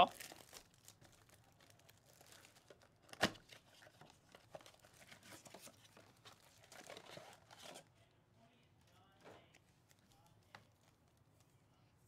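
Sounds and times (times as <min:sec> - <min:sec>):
cellophane packs crinkling: 0:00.0 - 0:07.9, 0:08.8 - 0:11.6.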